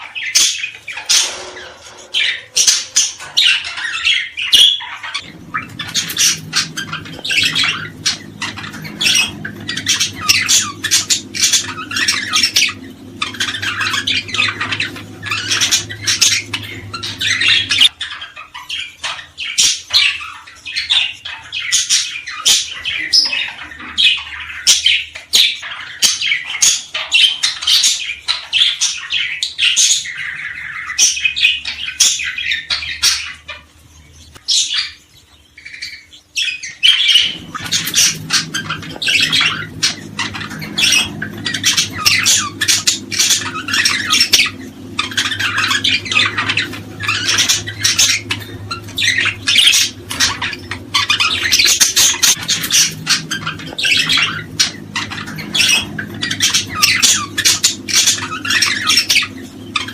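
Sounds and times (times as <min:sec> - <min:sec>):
low steady hum: 0:00.0 - 0:26.6, 0:30.0 - 0:59.9
small birds chirping: 0:00.0 - 0:59.9.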